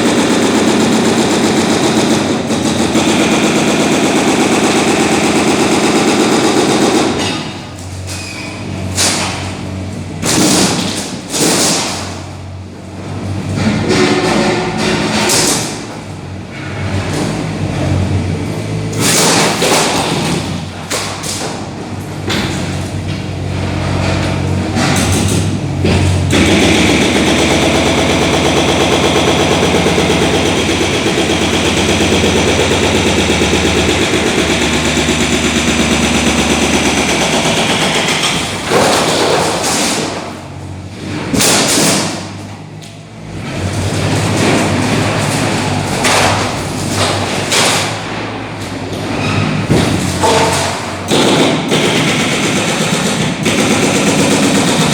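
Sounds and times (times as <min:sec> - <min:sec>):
rapid mechanical hammering: 0:00.0 - 0:07.8, 0:10.2 - 0:12.4, 0:13.6 - 0:16.0, 0:18.9 - 0:23.3, 0:24.1 - 0:42.4, 0:43.7 - 0:48.6, 0:49.6 - 0:54.9
heavy demolition thuds: 0:00.0 - 0:54.9.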